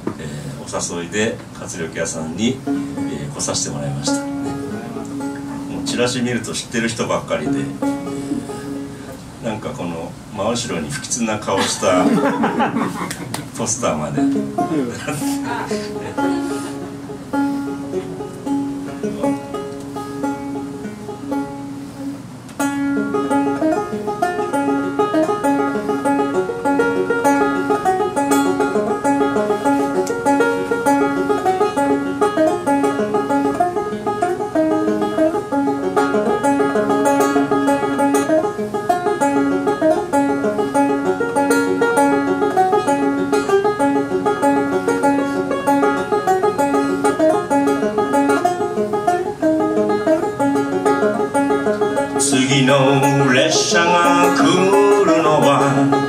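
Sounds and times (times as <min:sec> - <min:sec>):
banjo picking a tune: 0:00.0 - 0:56.0.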